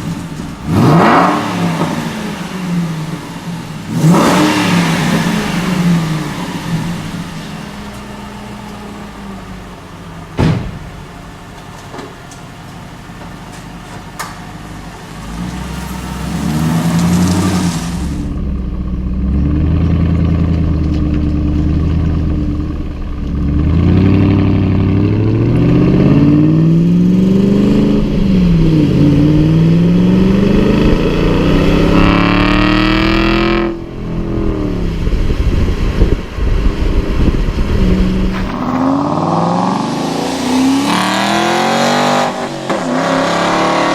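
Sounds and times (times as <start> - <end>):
sports car engine accelerating: 0.0 - 10.4, 14.8 - 43.9
exhaust crackling on overrun: 0.0 - 43.9.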